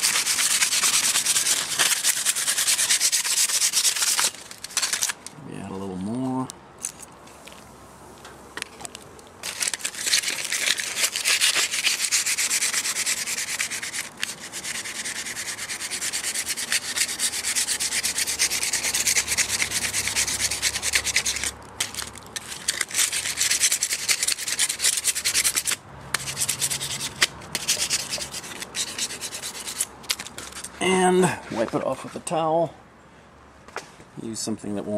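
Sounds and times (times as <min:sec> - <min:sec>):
foil scrubbing on metal: 0:00.0 - 0:05.2, 0:09.4 - 0:32.3.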